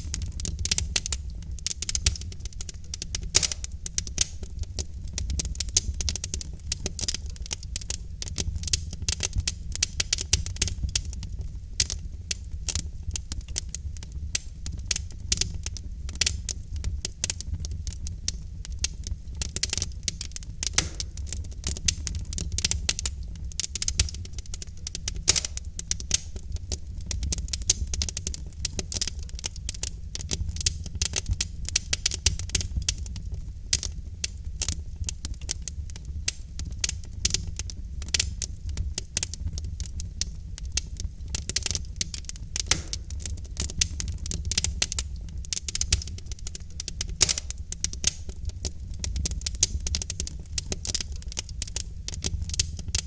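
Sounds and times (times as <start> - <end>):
logs crackling in fireplace: 0.0 - 53.0
low fire rumble: 0.0 - 53.0.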